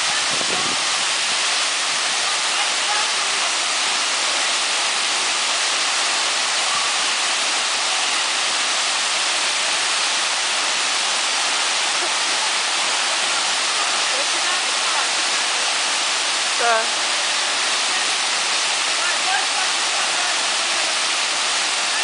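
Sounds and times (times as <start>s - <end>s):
waterfall crashing: 0.0s - 22.0s.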